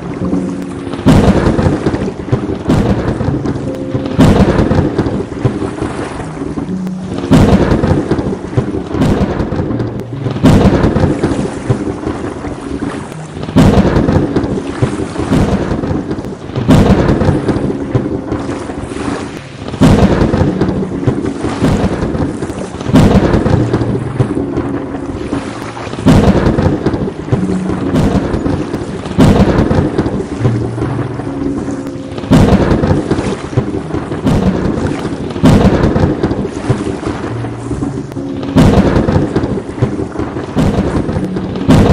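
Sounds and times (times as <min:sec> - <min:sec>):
steady rain: 0:00.0 - 0:41.9
thunderclaps rumbling: 0:00.0 - 0:41.9.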